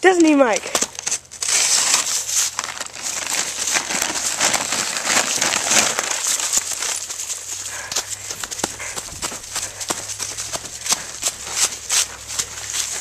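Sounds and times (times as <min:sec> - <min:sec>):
feed sack crinkling and rustling: 0:00.6 - 0:13.0.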